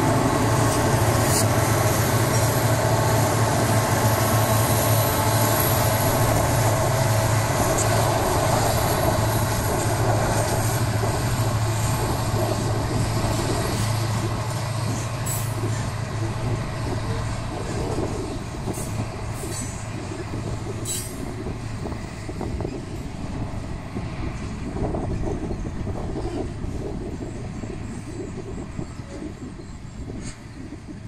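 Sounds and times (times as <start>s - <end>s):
diesel locomotive passing: 0.0s - 31.0s
steel wheels rumbling on rail: 0.0s - 31.0s.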